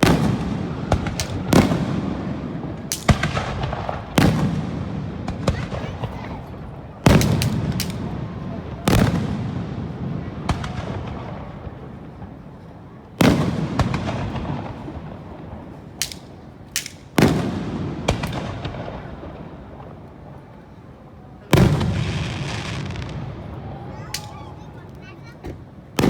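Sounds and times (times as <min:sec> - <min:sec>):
sharp firework cracks: 0:00.0 - 0:12.4, 0:13.2 - 0:20.0, 0:21.5 - 0:26.0
fireworks booming with echo: 0:00.0 - 0:20.8, 0:21.4 - 0:26.0.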